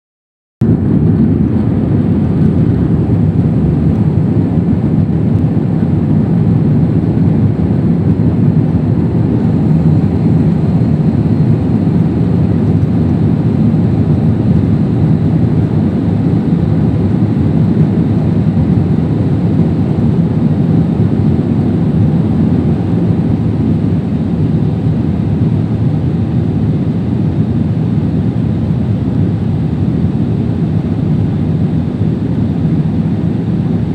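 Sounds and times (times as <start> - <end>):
jet engines and rushing air: 0.6 - 33.9.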